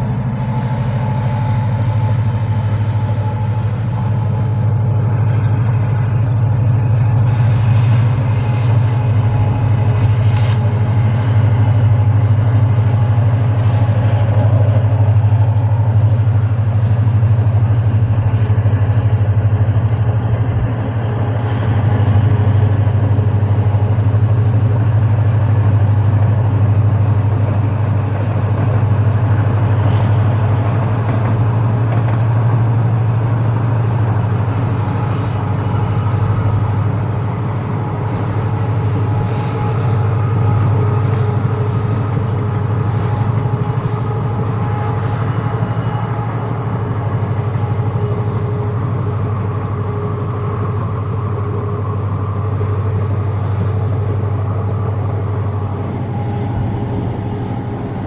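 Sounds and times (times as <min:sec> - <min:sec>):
diesel locomotive engine drone: 0:00.0 - 0:58.0
thin high whine: 0:00.0 - 0:58.0.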